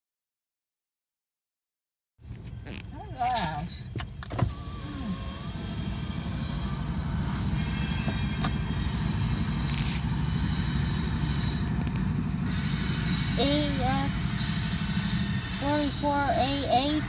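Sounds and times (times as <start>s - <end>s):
car road rumble inside cabin: 2.2s - 17.0s.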